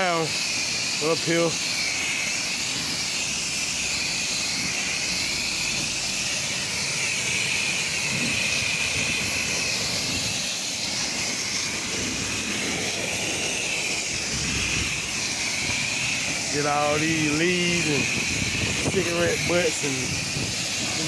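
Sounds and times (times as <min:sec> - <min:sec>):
pressure washer spraying: 0:00.0 - 0:21.0.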